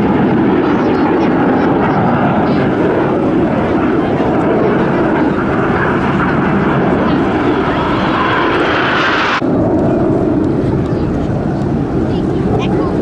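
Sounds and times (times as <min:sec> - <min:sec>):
jet aircraft whine: 0:00.0 - 0:13.0
low jet rumble: 0:00.0 - 0:13.0.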